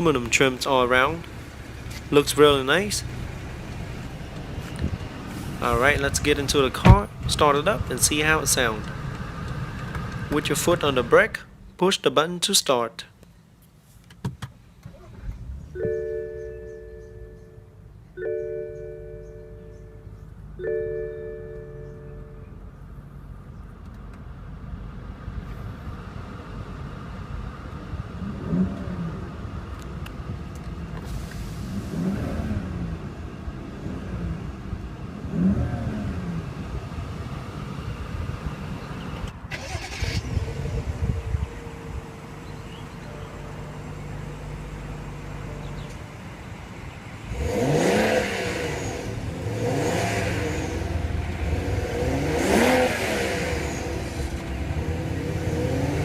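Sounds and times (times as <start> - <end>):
car engine idling and revving: 0.0 - 11.5, 14.7 - 56.0.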